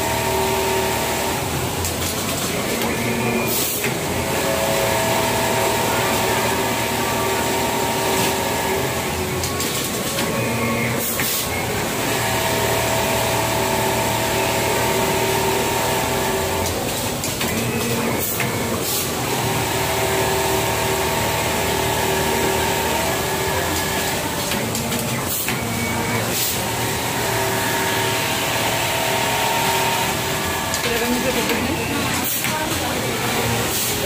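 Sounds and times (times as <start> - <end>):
sewing machine whir: 0.0 - 34.0.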